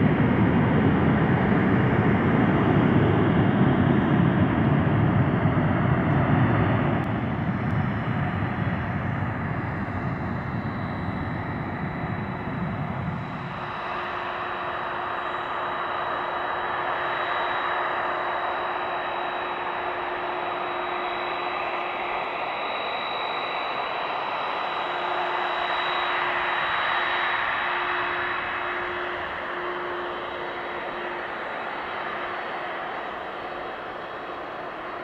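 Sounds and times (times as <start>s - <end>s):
jet engines idling: 0.0s - 35.0s.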